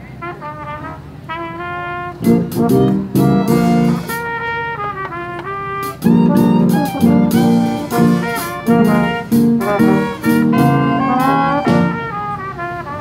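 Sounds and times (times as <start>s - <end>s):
jazz band playing accented chords: 0.2s - 12.9s.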